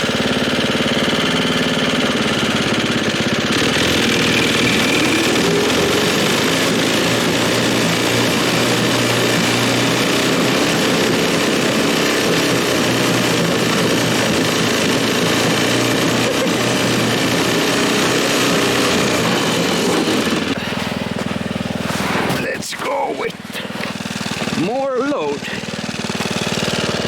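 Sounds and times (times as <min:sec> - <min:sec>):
small engine running steadily: 0:00.0 - 0:27.0.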